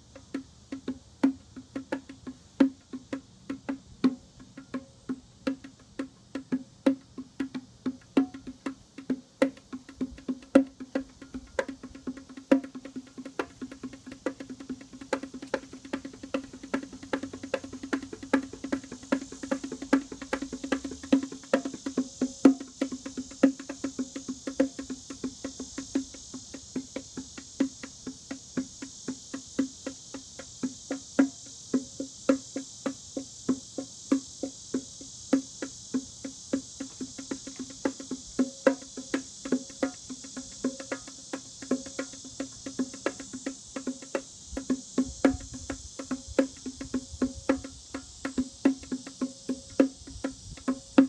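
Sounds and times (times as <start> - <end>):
bongos struck by hand: 0.0 - 51.0
cicadas droning: 0.0 - 51.0.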